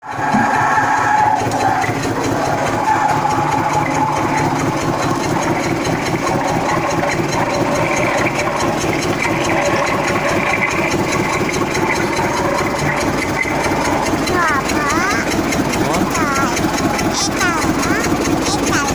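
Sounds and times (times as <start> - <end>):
road roller diesel engine chugging: 0.0 - 18.9.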